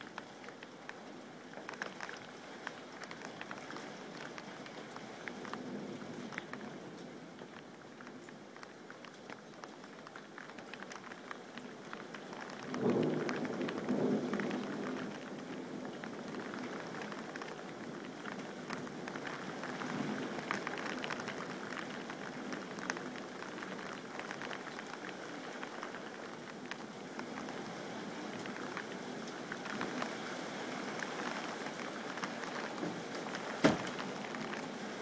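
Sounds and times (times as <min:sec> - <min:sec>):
rain pattering on a window: 0:00.0 - 0:35.0.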